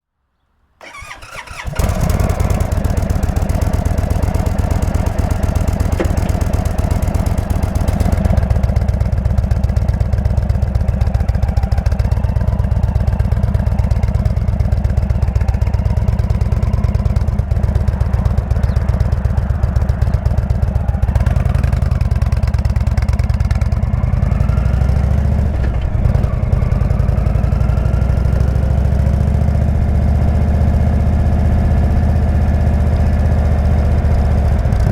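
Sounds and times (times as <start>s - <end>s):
motorcycle engine idling: 0.8s - 34.9s.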